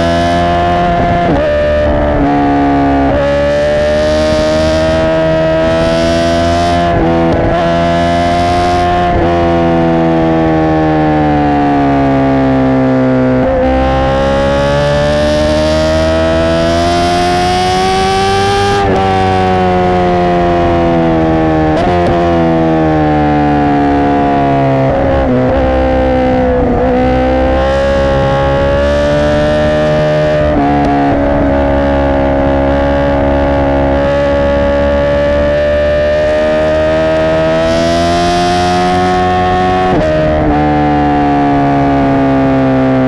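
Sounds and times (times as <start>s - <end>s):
motorcycle engine at high revs: 0.0s - 43.0s.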